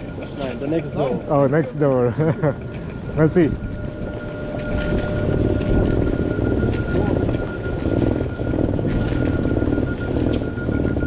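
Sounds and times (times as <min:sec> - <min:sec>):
thin high whine: 0:00.0 - 0:11.0.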